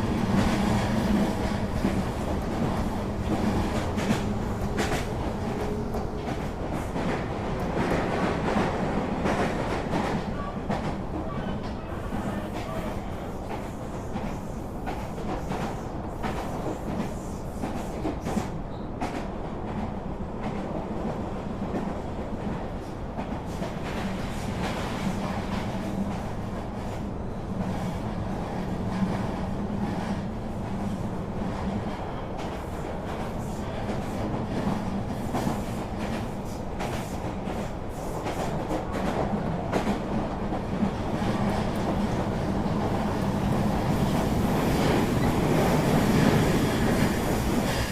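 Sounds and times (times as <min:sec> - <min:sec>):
clatter from tracks: 0:00.0 - 0:47.9
moving train rumble: 0:00.0 - 0:47.9.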